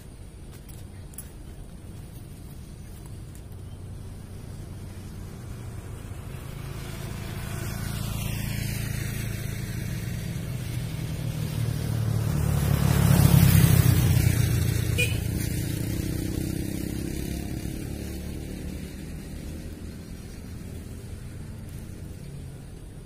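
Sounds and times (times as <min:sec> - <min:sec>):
motor vehicle passing by: 0:00.0 - 0:23.0.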